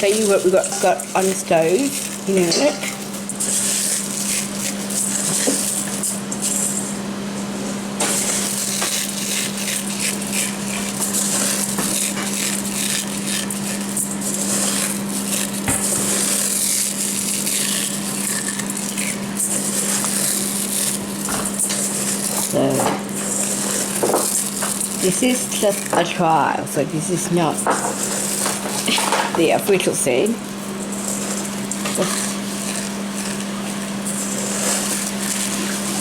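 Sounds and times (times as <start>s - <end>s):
utensil scraping a pan: 0.0s - 7.0s, 8.1s - 30.2s, 30.8s - 36.0s
steady low hum: 0.0s - 36.0s.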